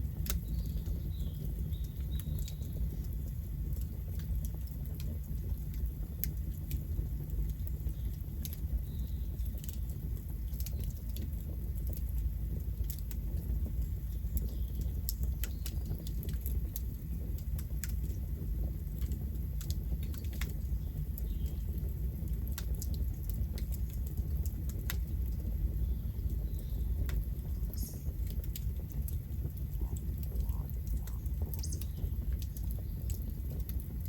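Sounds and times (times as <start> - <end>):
low rumble of flames: 0.0 - 34.0
wood crackling and popping: 0.0 - 34.0.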